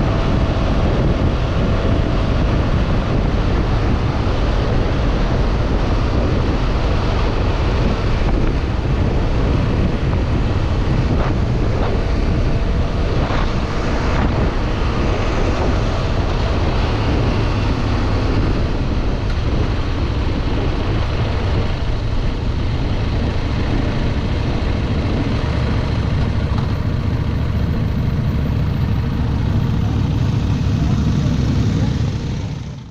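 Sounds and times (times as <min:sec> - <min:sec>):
motorcycle engine running: 0:00.0 - 0:32.9
wind buffeting microphone: 0:00.0 - 0:32.9.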